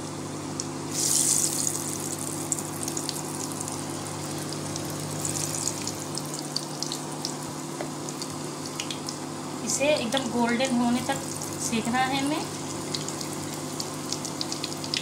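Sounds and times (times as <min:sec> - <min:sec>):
fritters sizzling in hot oil: 0:00.9 - 0:09.3, 0:10.9 - 0:15.0.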